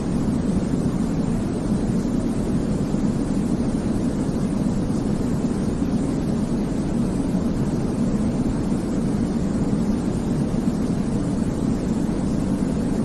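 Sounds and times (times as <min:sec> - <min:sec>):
deep rushing white noise: 0:00.0 - 0:13.0.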